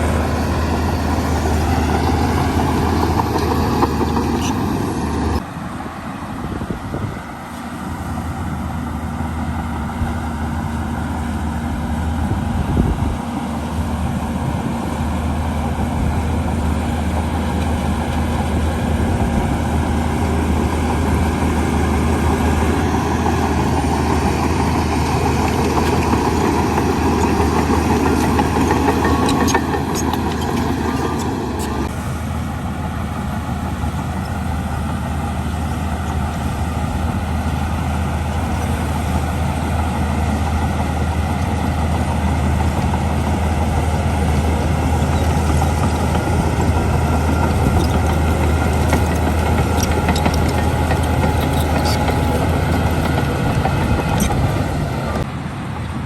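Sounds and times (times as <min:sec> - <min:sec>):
heavy machinery diesel engine humming: 0:00.0 - 0:56.0.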